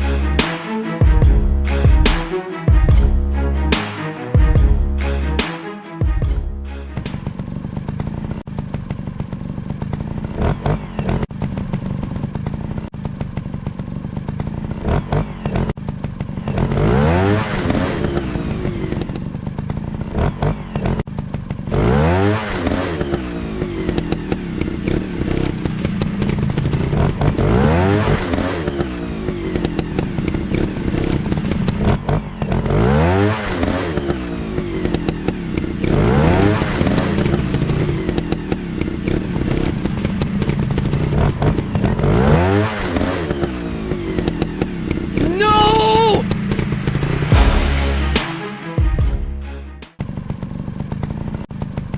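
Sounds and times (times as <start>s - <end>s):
dirt bike engines revving: 6.6s - 48.5s.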